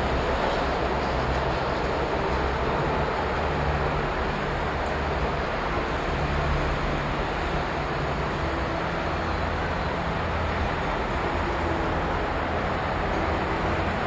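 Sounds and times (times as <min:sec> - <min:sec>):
lorry engines droning: 0:00.0 - 0:14.0
road traffic rumble: 0:00.0 - 0:14.0.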